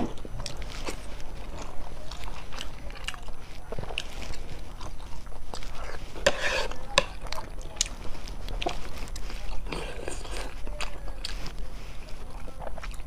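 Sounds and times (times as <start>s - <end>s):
chewing with wet mouth clicks: 0.1s - 6.1s, 6.9s - 13.0s.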